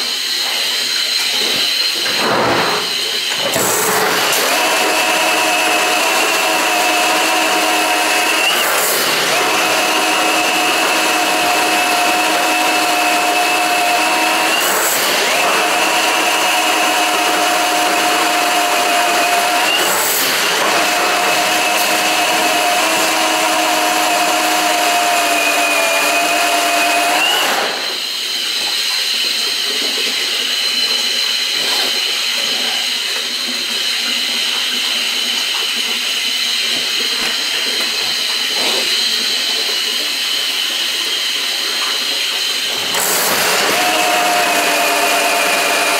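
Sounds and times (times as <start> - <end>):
drain snake motor running: 0.0 - 45.9.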